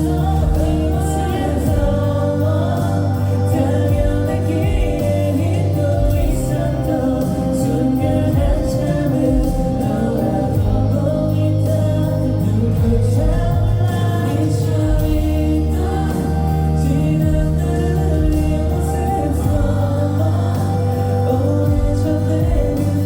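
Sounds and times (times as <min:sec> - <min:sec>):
crowd singing along: 0:00.0 - 0:23.0
pop song: 0:00.0 - 0:23.0.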